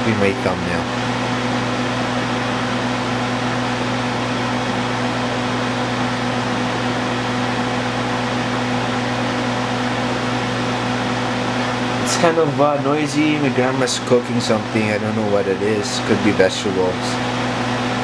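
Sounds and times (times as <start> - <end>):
whirring with low hum: 0.0 - 18.0.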